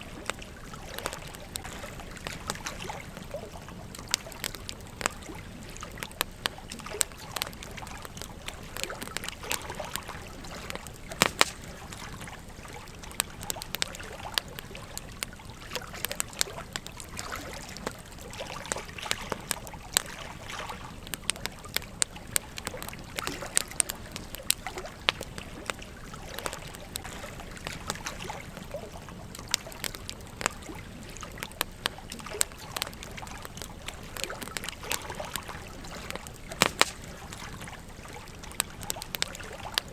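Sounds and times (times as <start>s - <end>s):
campfire crackling and popping: 0.0s - 39.9s
gentle stream trickling: 0.0s - 39.9s.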